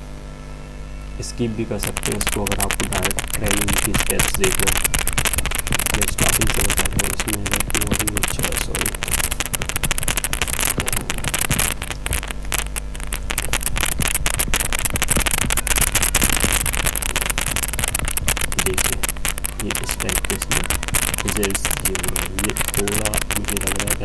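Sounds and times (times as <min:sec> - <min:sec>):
low hum: 0:00.0 - 0:24.0
microphone crackling static: 0:00.0 - 0:24.0.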